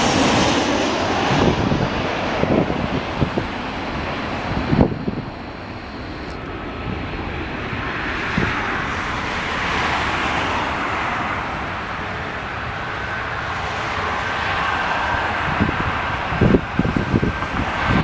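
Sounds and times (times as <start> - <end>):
jet engine rush: 0.0 - 18.0.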